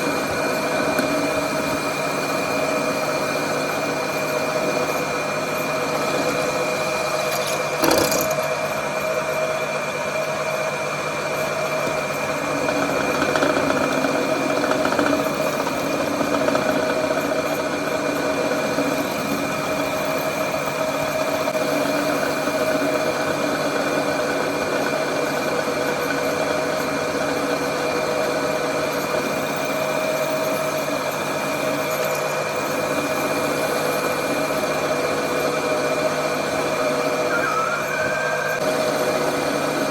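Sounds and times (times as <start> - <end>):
workshop machine whining: 0.0 - 39.9.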